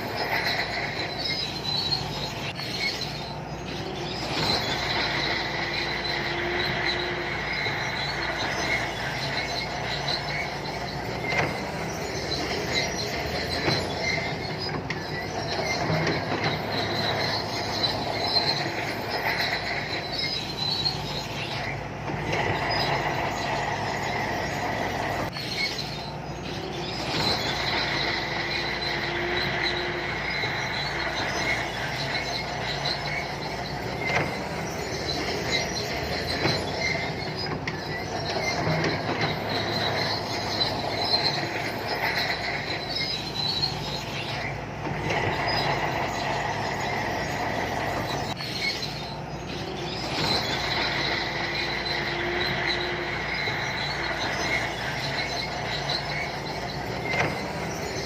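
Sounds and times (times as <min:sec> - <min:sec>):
diesel engine running: 0:00.0 - 0:58.0
steel tracks squealing and clanking: 0:00.0 - 0:58.0.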